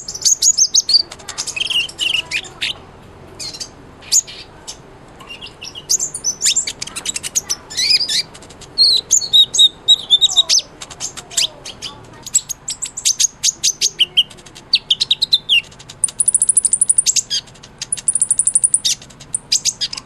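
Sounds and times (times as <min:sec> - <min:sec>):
bird twittering and trilling: 0:00.0 - 0:20.0.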